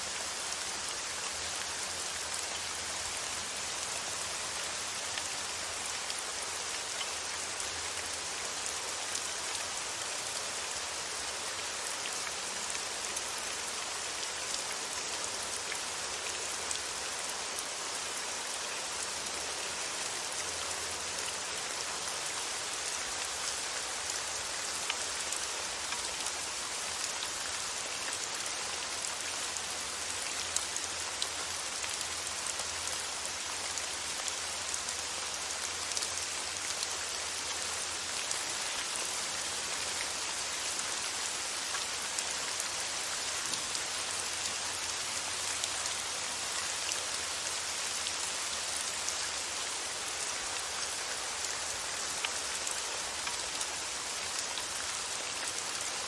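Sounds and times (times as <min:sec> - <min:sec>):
patter of raindrops: 0:00.0 - 0:56.0
steady rain hiss: 0:00.0 - 0:56.0.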